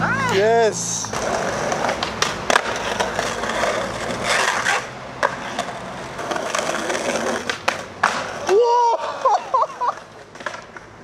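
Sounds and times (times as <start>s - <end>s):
skateboard wheels rolling on pavement: 0.0s - 11.0s
skateboard wheels clicking over cracks: 1.0s - 11.0s.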